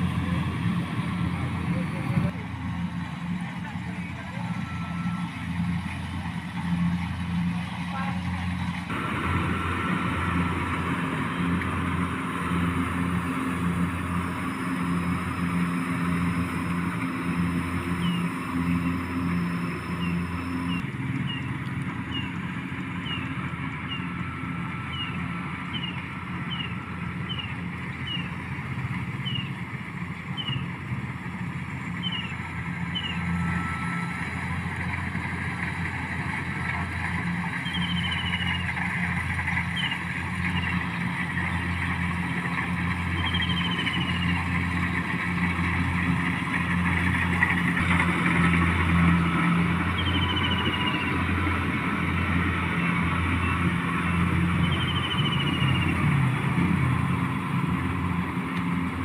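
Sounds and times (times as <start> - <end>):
motor engine running: 0.0 - 59.0.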